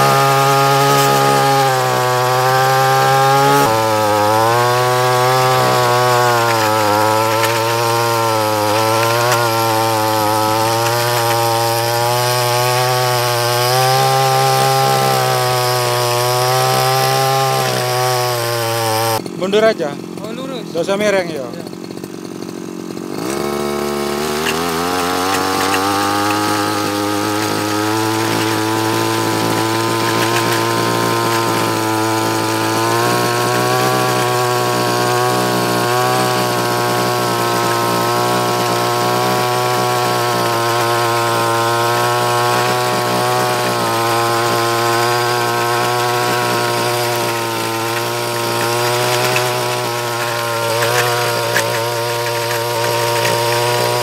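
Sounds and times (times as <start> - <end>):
brush cutter engine revving: 0.0 - 54.0.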